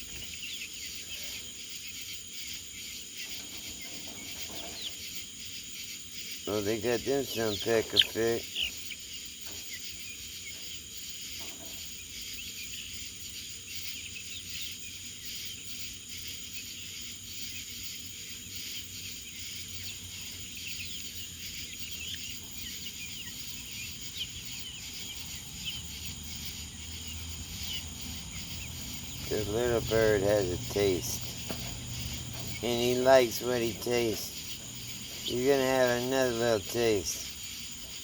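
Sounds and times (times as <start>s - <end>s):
birds chirping: 0.0s - 38.0s
insects droning: 0.0s - 38.0s.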